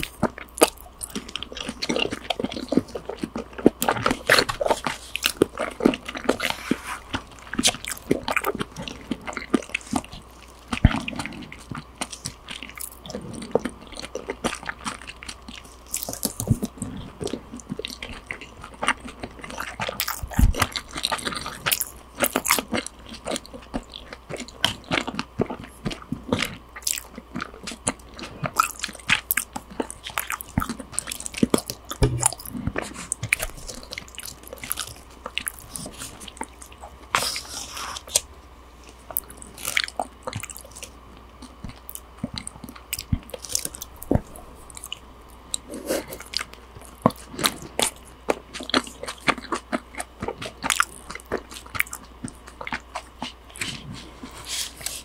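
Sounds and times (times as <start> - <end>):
close chewing and mouth smacks: 0.0 - 55.0.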